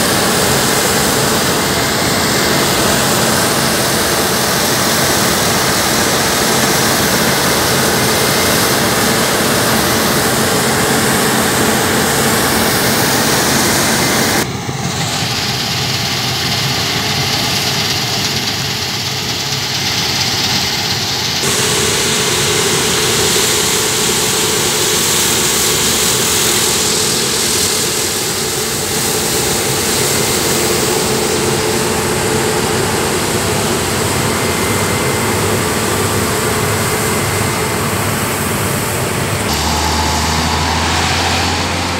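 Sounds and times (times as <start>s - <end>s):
combine harvester running: 0.0s - 41.9s.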